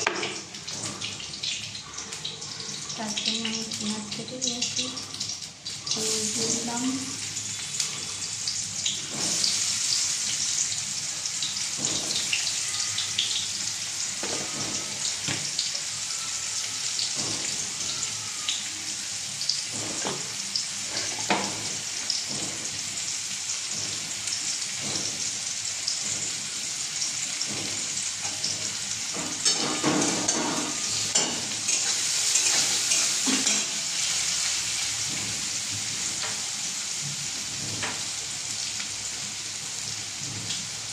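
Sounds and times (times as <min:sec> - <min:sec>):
food sizzling in oil: 0:00.0 - 0:40.9.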